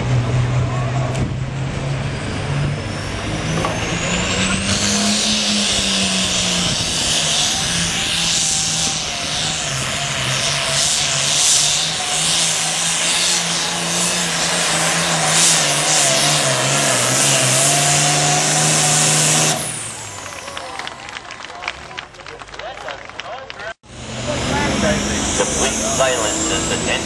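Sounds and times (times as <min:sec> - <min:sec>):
tractor engine at high revs: 0:00.0 - 0:21.8, 0:22.6 - 0:27.0.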